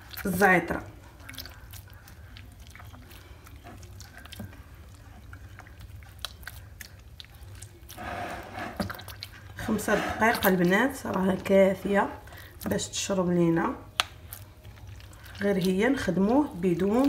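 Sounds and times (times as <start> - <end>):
soft wet squishes of kneading: 0.0 - 17.0.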